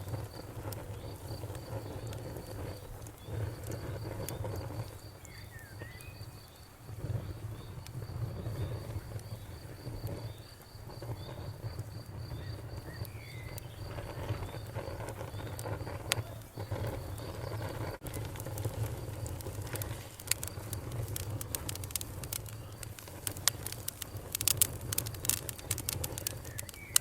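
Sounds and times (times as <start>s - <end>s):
bonfire crackling and popping: 0.0s - 27.0s
cricket chirping: 0.0s - 27.0s.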